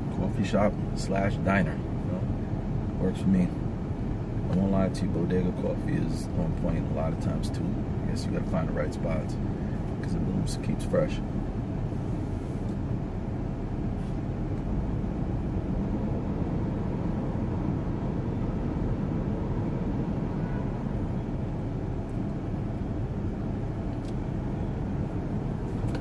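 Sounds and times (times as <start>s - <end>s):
car cabin low rumble: 0.0s - 26.0s
surrounding traffic: 0.0s - 26.0s.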